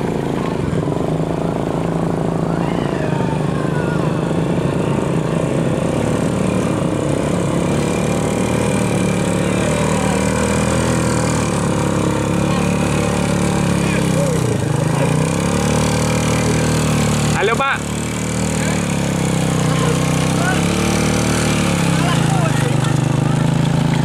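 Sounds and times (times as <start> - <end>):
small motorcycle engine running: 0.0 - 24.0.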